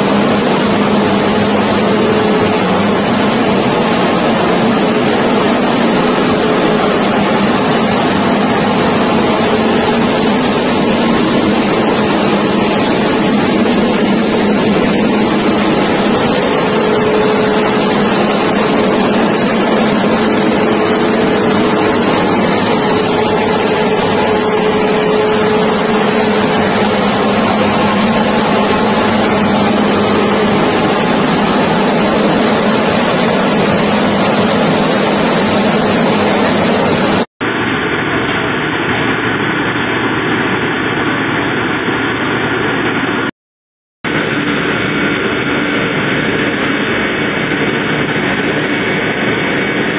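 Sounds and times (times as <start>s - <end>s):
rice milling machinery running: 0.0s - 43.3s, 44.1s - 49.9s.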